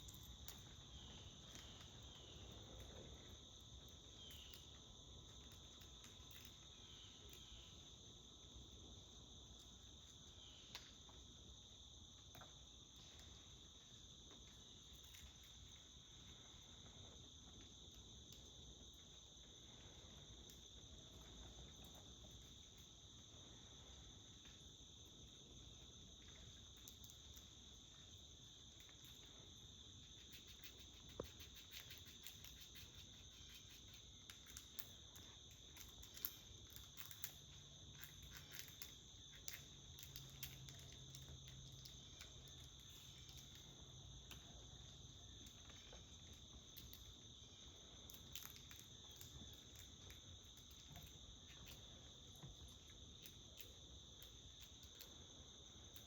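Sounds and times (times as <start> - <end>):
small clicks and ticks: 0.0 - 7.8, 12.0 - 23.3, 24.2 - 56.0
faint low hum: 0.0 - 56.0.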